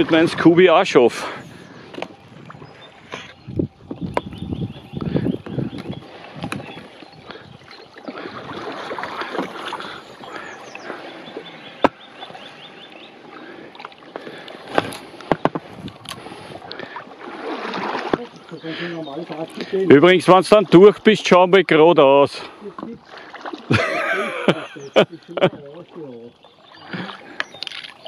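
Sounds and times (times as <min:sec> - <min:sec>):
faint birds chirping: 0:00.0 - 0:28.0
paddle splashing: 0:00.0 - 0:28.0.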